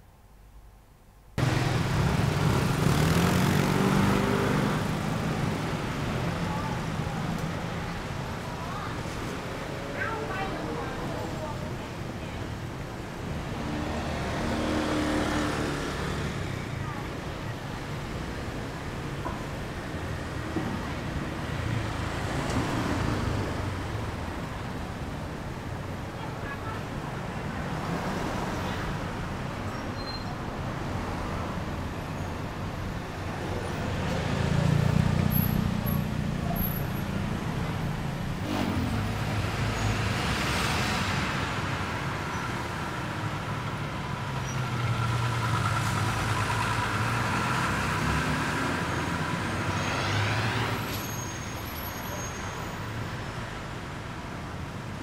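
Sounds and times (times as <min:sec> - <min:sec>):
street background noise: 0:00.0 - 0:55.0
vehicles passing: 0:01.4 - 0:55.0.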